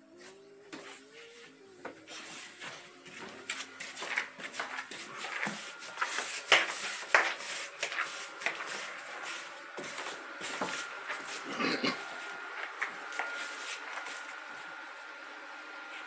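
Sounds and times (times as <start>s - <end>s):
rustling and rubbing of handling: 0.2s - 14.8s.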